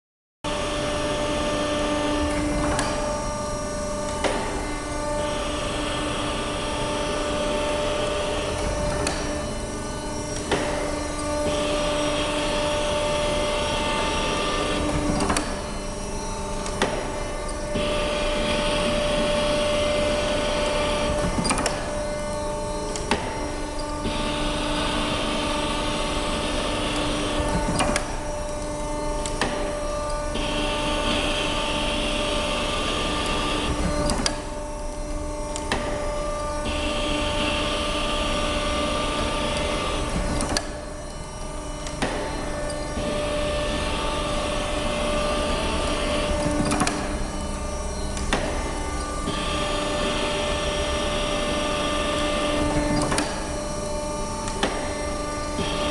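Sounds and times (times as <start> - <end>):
machine motor hum: 0.5 - 55.9.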